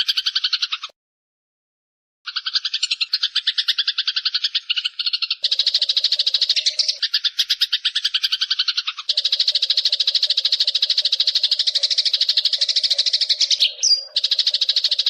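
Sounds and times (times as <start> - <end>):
sparrow chirping: 0.0 - 0.9, 2.3 - 15.0.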